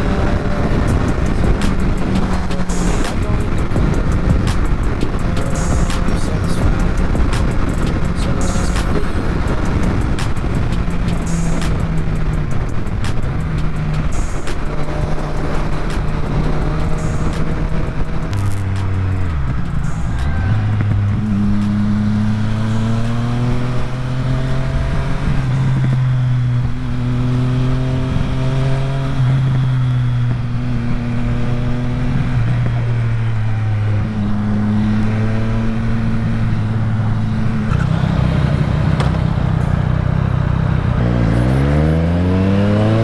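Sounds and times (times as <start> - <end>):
motorcycle engine under way: 0.0 - 43.0
wind noise: 0.0 - 43.0.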